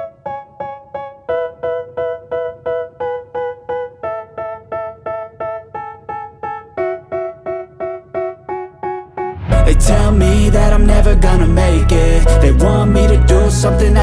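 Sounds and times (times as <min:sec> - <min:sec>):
piano chords struck repeatedly: 0:00.0 - 0:14.0.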